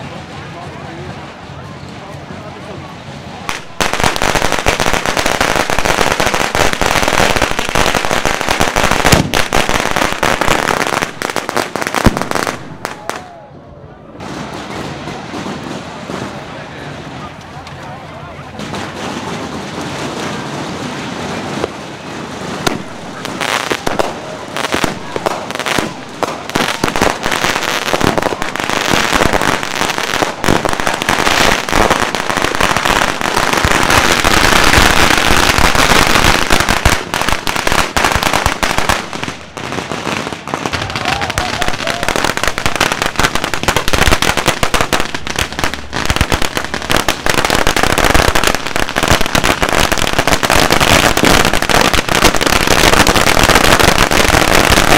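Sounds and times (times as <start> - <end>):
firecrackers crackling: 0.0 - 54.9
sharp firework bangs: 3.5 - 13.1, 18.6 - 54.9.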